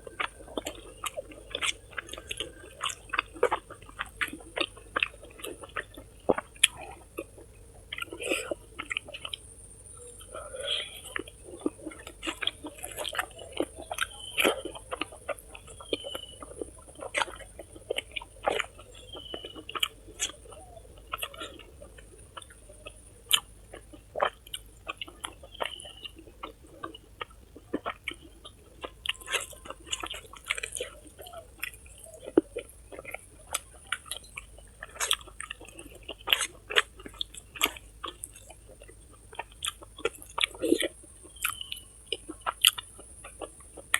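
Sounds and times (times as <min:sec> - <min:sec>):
chewing and mouth noises: 0:00.0 - 0:43.9.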